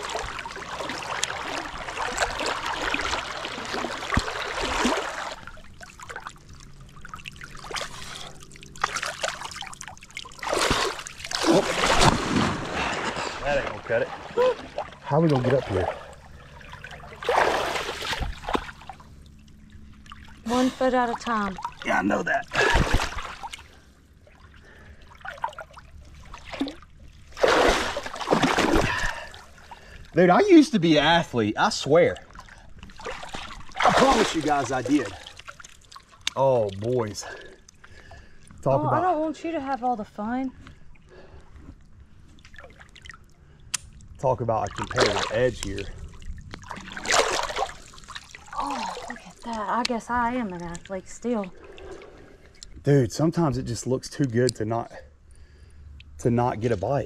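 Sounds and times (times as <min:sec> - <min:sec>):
water sloshing from wading: 0:00.0 - 0:52.8.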